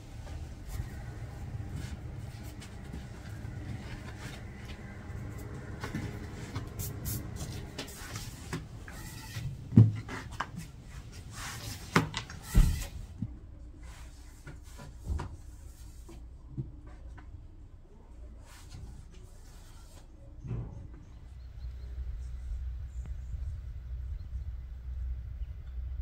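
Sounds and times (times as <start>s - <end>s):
low steady background noise: 0.0s - 26.0s.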